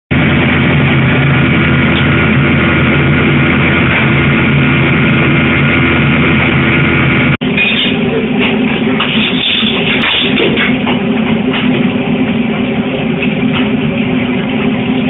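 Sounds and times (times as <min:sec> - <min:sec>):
gas burner roaring: 0:00.1 - 0:15.0.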